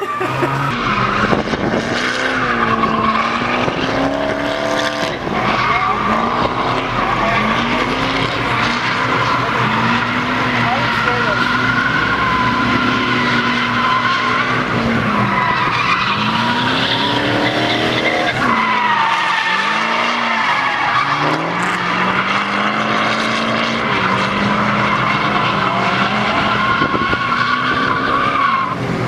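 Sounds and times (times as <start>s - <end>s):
car engines revving: 0.0s - 29.0s
tyres squealing: 0.0s - 29.0s.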